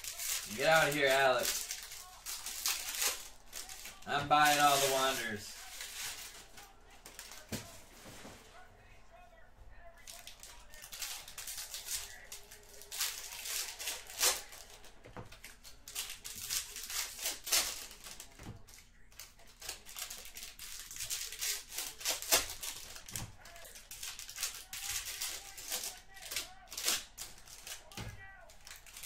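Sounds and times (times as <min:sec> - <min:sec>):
cards and wrappers rustling: 0:00.0 - 0:29.0.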